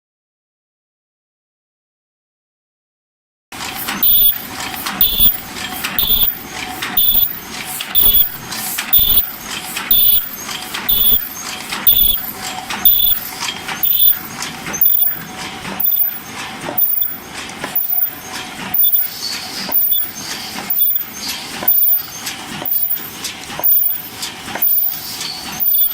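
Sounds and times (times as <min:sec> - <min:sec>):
cup forming machine knocking: 0:03.6 - 0:25.9.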